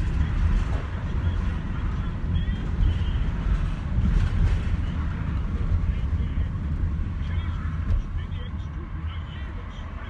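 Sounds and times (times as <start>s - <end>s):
wind noise: 0.0s - 8.1s
engine and tyre rumble: 0.0s - 10.0s.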